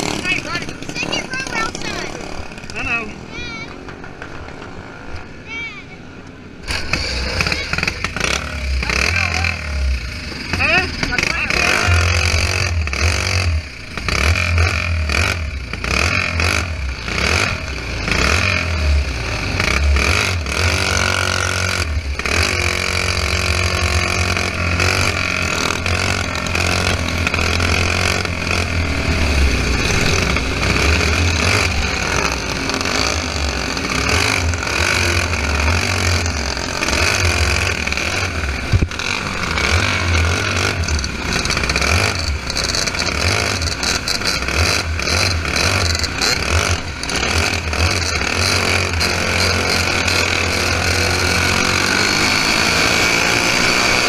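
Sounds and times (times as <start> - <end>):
kart engine revving: 0.0 - 54.0
other kart engines racing: 0.0 - 54.0.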